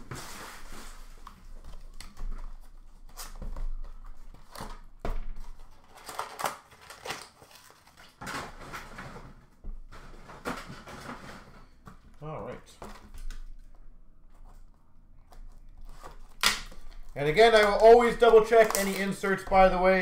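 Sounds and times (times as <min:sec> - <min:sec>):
card boxes and wrappers rustling: 0:00.0 - 0:11.8, 0:15.4 - 0:20.0.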